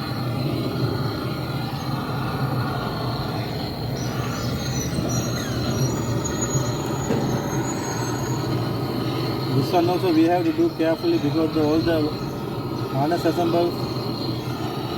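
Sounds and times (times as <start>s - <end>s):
blow lamp flame hissing: 0.0s - 14.9s
faint squeaky whistles: 0.4s - 14.9s.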